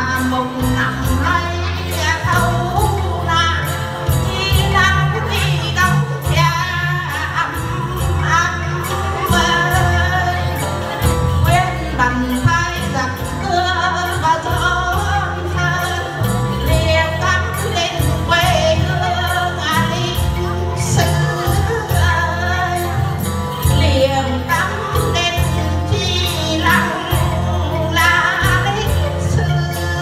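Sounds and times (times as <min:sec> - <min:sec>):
women singing together: 0:00.0 - 0:30.0.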